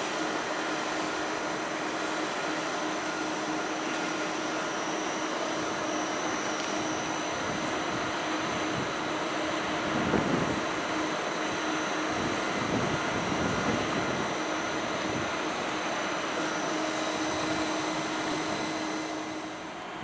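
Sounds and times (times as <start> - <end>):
faint high whines: 0.0 - 20.0
train fans whirring: 0.0 - 20.0.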